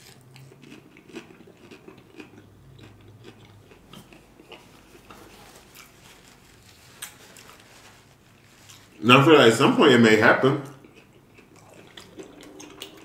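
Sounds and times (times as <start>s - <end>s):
man chewing crunchy food: 0.0s - 9.0s, 10.6s - 13.0s.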